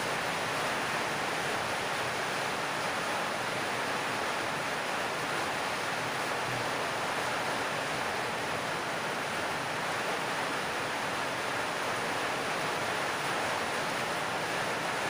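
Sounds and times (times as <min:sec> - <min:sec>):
heavy rain on a metal roof: 0:00.0 - 0:15.0.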